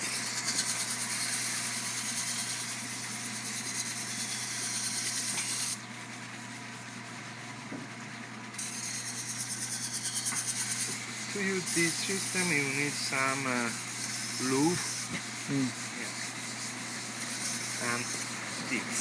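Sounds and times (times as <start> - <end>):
knife grinding on sharpening wheel: 0.0 - 5.8, 8.6 - 19.0
motor hum: 0.0 - 19.0.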